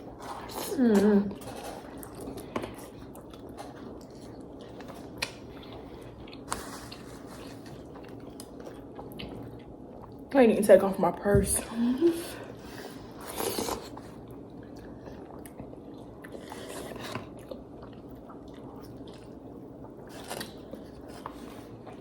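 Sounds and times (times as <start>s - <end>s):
chewing and biting: 0.0s - 10.2s, 13.2s - 22.0s.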